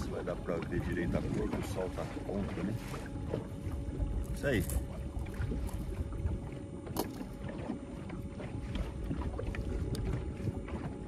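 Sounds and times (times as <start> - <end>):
water noise around hull: 0.0 - 11.0
wind buffeting microphone: 0.0 - 11.0.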